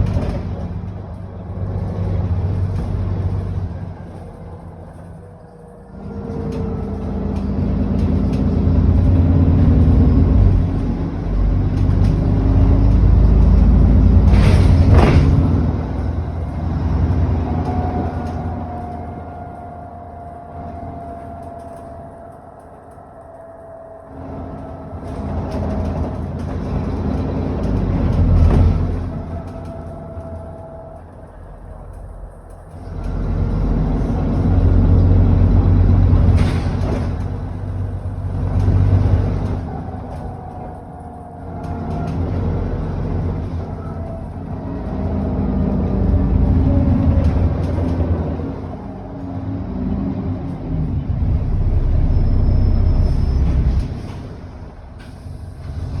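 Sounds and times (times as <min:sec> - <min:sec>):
bus engine pulling hard: 0:00.0 - 0:56.0.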